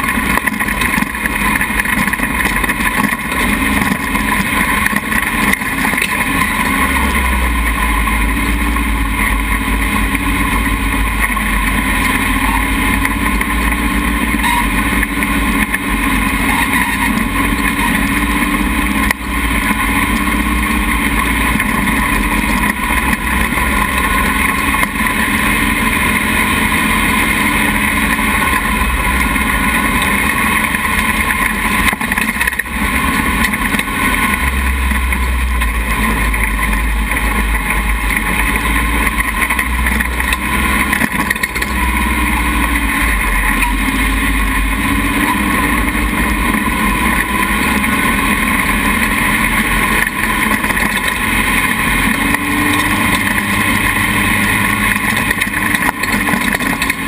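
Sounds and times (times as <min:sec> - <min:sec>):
dune buggy engine running: 0:00.0 - 0:57.0
wind noise on camera: 0:00.0 - 0:57.0.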